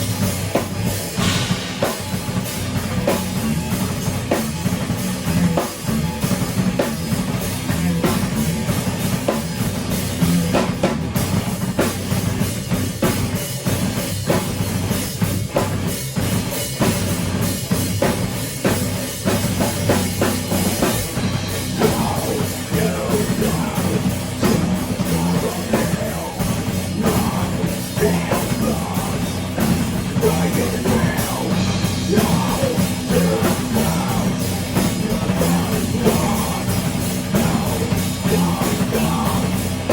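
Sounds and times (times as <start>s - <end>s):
bass guitar: 0.0s - 39.9s
distorted electric guitars: 0.0s - 39.9s
drum kit beat: 0.0s - 39.9s.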